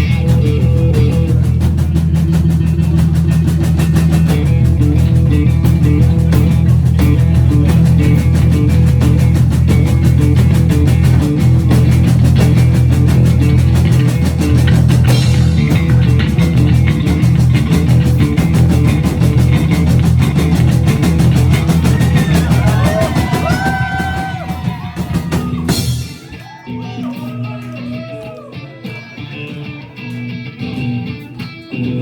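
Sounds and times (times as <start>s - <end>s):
electric guitar: 0.0s - 32.0s
live rock band playing: 0.0s - 32.0s.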